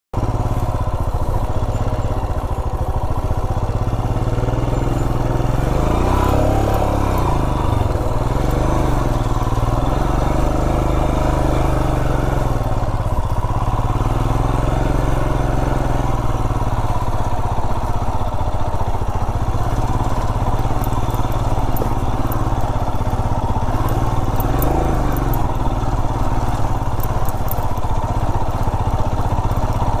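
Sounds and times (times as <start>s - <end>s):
motorcycle engine running at low revs: 0.2s - 30.0s.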